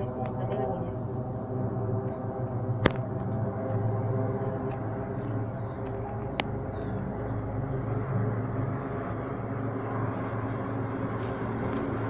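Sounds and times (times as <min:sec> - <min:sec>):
aircraft engines droning overhead: 0:00.0 - 0:12.0.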